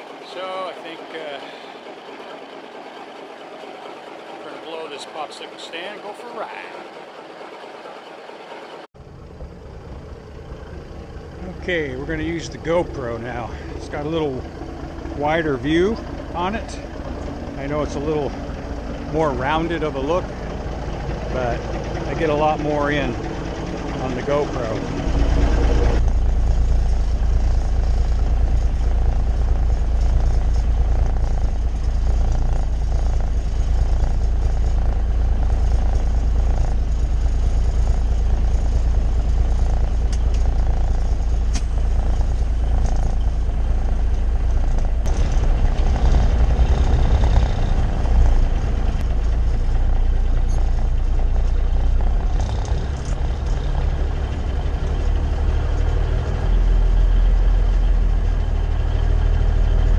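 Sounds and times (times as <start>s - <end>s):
diesel engine rumble from cab: 0.0s - 59.9s.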